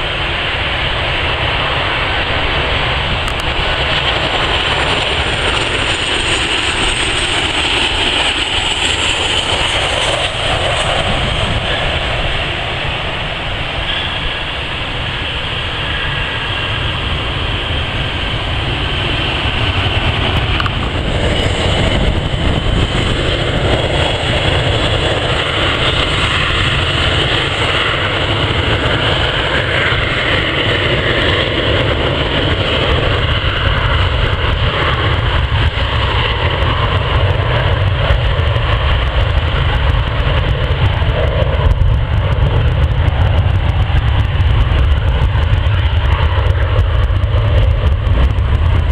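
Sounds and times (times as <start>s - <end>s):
jet airliner engines running: 0.0s - 48.9s.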